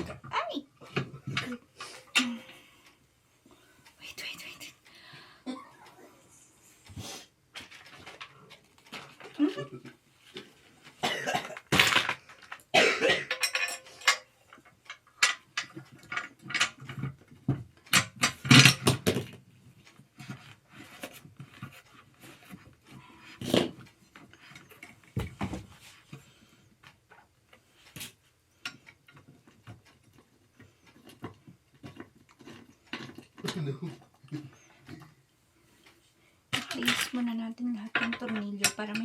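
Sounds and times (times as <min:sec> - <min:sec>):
chair parts clicking and rattling: 0:00.0 - 0:02.9, 0:07.5 - 0:35.2, 0:35.8 - 0:39.0.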